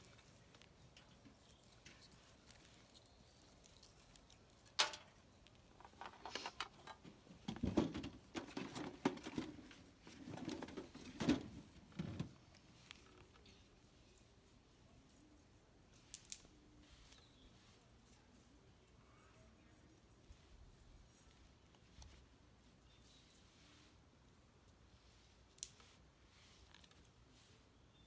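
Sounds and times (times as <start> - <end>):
tinder scraping and rustling: 0.0 - 18.7, 20.0 - 28.0.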